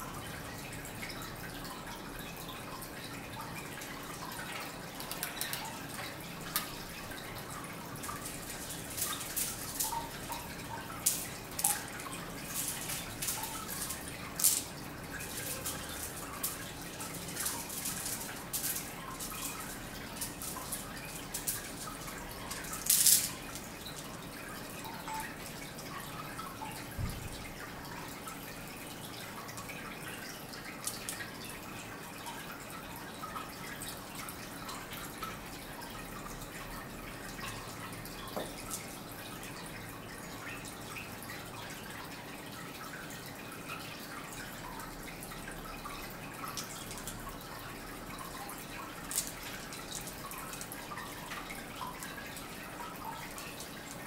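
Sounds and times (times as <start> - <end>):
water dripping: 0.0 - 54.0
water trickling: 0.0 - 54.0.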